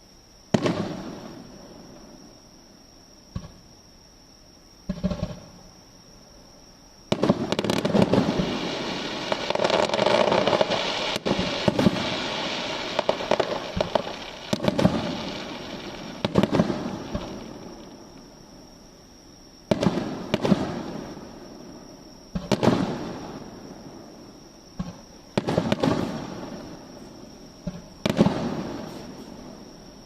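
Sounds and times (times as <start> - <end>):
fireworks bangs and crackles: 0.5 - 2.2, 4.8 - 5.6, 7.1 - 18.6, 19.6 - 30.0.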